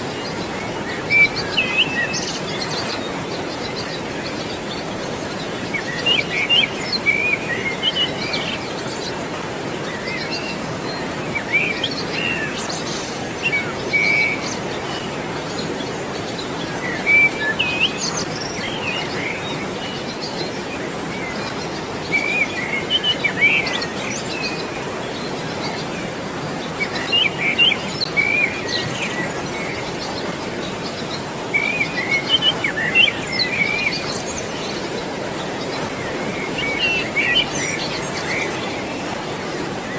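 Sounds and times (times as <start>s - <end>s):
birds chirping: 0.0s - 39.9s
flowing water rushing: 0.0s - 39.9s.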